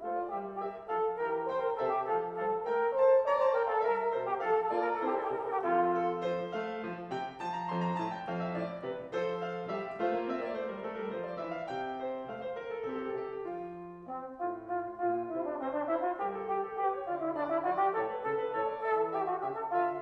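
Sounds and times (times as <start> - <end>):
grand piano playing baroque passage: 0.0 - 20.0.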